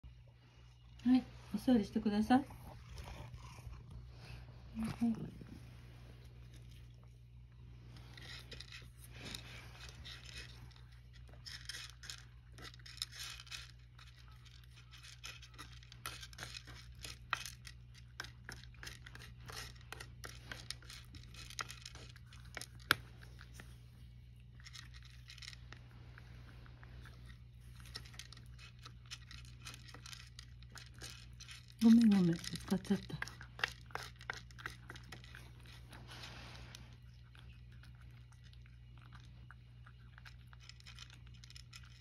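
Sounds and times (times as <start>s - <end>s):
steady low hum: 0.0s - 42.0s
cat crunching dry kibble: 0.7s - 42.0s
wooden spoon scraping kibble: 7.7s - 42.0s.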